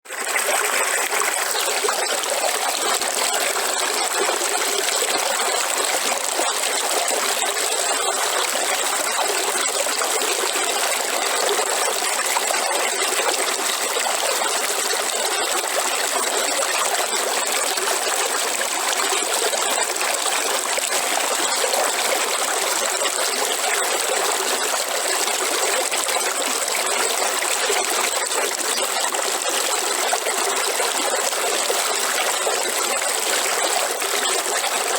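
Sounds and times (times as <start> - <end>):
river water flowing and babbling: 0.1 - 34.9.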